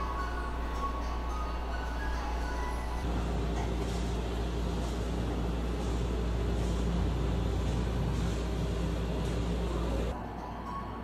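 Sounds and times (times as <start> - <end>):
train station rumble and hum: 0.0 - 10.2.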